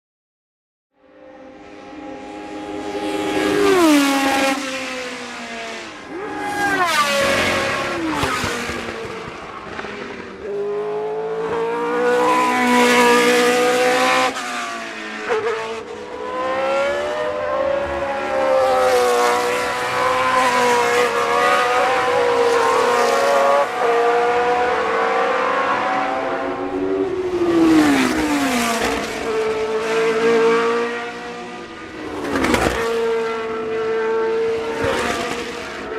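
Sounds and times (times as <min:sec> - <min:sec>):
racing car engines passing: 0:01.1 - 0:35.9.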